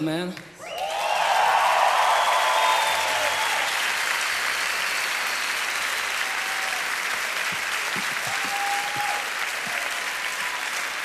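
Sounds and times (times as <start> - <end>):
audience applauding: 0.6 - 11.0.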